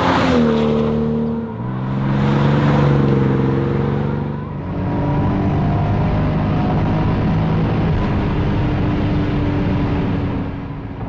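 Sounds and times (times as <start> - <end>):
car engine running at speed: 0.0 - 11.0.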